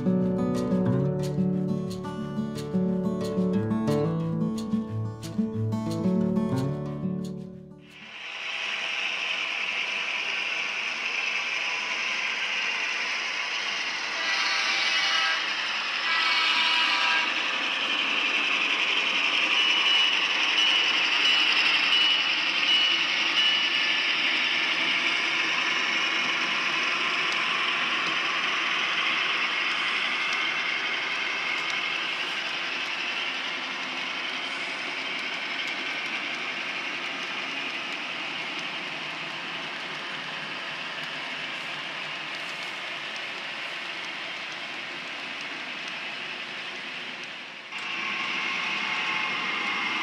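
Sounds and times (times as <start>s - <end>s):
model train motors whirring: 7.9s - 50.0s
model train wheels rattling on track: 8.0s - 50.0s.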